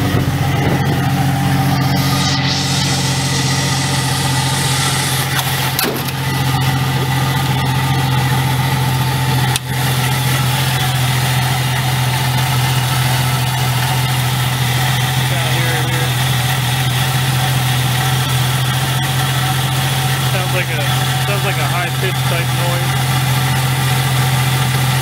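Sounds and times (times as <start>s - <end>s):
car engine idling: 0.0s - 25.0s
high-pitched alternator whine: 0.0s - 25.0s.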